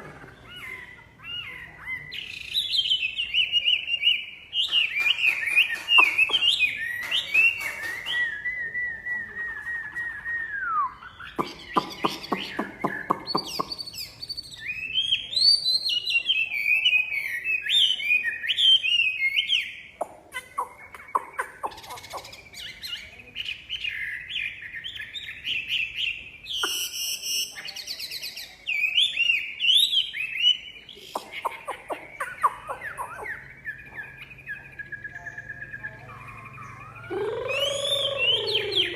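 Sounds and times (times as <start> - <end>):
bird singing whistled phrases: 0.4 - 19.8, 20.4 - 38.9.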